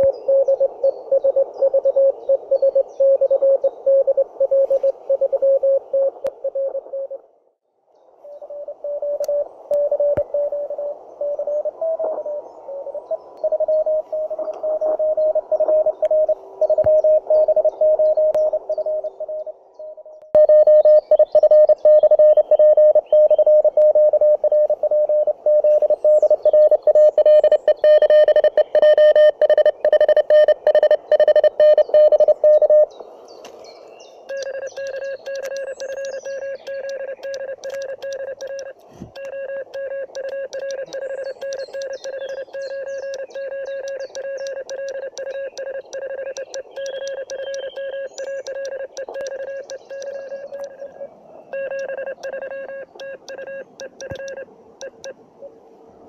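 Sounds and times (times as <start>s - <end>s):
morse code beeps: 0.0s - 7.2s, 8.4s - 12.0s, 13.4s - 32.9s, 34.3s - 55.2s.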